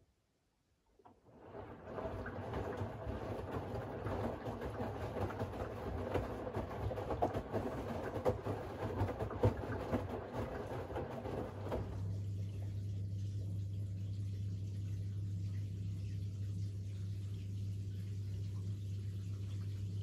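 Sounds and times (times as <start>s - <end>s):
washing machine motor hum: 0.9s - 20.0s
laundry sloshing in drum: 1.1s - 20.0s.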